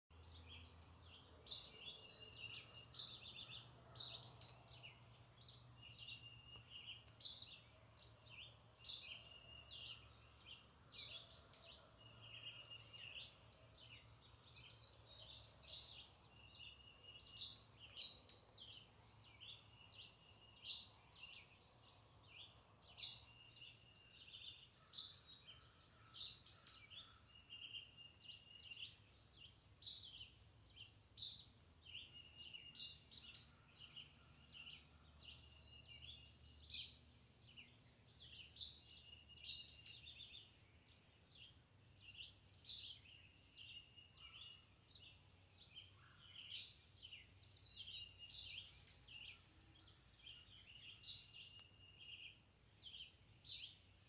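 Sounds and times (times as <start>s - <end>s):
birds chirping and whistling: 0.5s - 21.6s, 22.3s - 53.9s.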